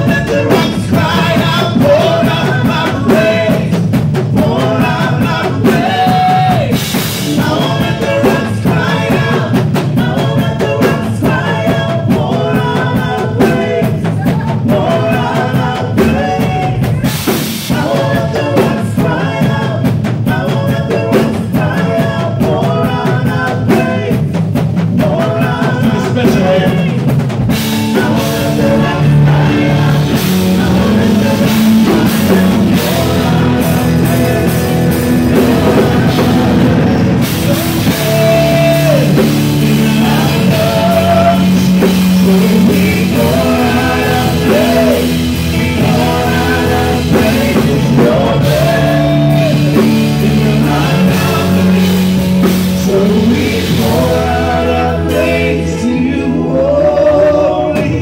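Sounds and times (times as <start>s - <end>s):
gospel band playing: 0.0s - 58.0s.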